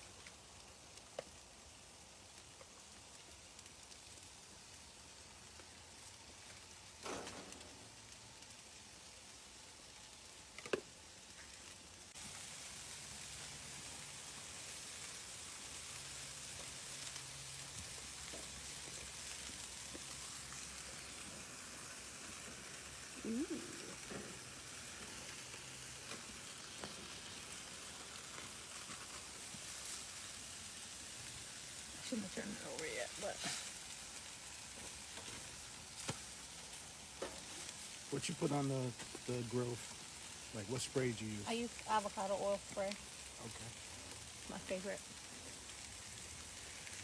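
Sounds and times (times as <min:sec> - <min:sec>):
chicken sizzling on a grill: 0:00.0 - 0:47.0.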